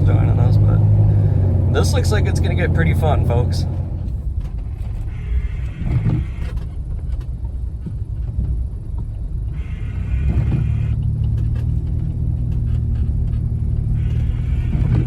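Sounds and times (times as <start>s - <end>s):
engine and tyres rumbling: 0.0s - 15.0s.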